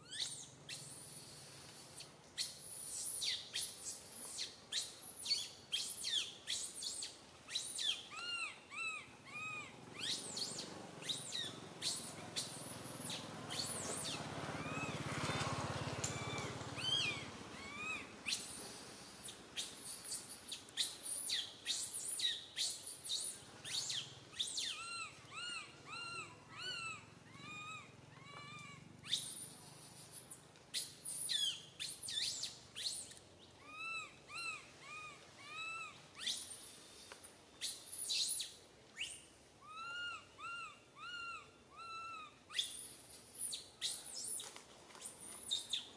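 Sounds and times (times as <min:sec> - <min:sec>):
baby monkey squealing calls: 0:00.0 - 0:15.0, 0:16.1 - 0:45.9.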